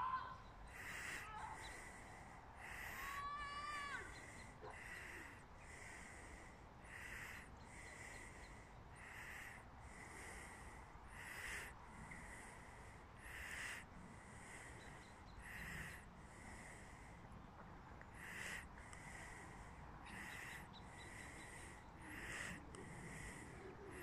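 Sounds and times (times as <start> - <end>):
faint outdoor hiss: 0.0 - 24.0
quiet regular breathing: 0.0 - 24.0.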